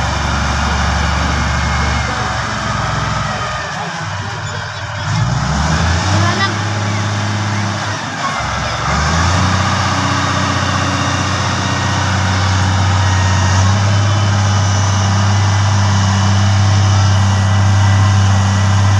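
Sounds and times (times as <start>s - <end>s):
diesel engine humming: 0.0s - 18.9s.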